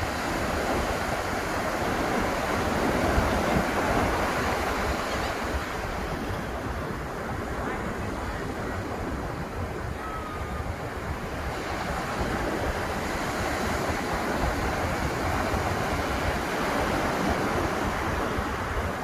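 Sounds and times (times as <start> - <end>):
surf breaking on beach: 0.0 - 19.0
wind rumbling on microphone: 0.0 - 19.0.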